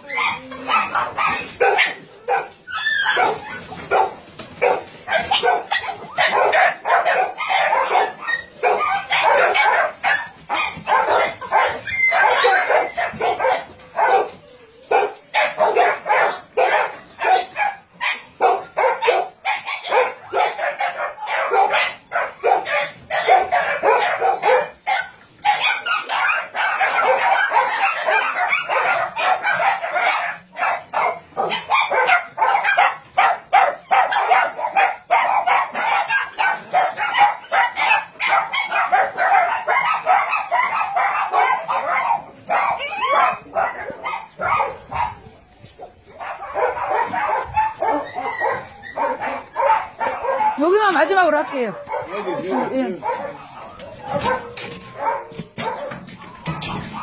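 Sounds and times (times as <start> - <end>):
many dogs barking: 0.0 - 57.0.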